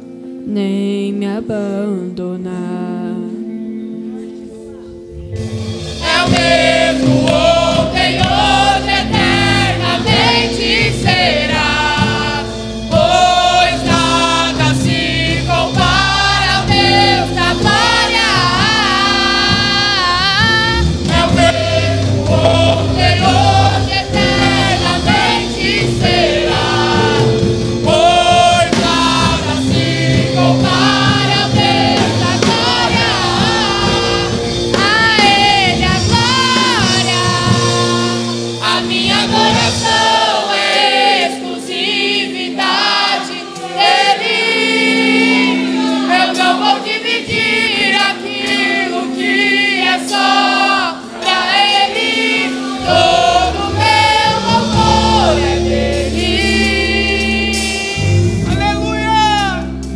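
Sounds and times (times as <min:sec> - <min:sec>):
live band: 0:03.0 - 0:59.9
choir singing gospel song: 0:04.8 - 0:59.9.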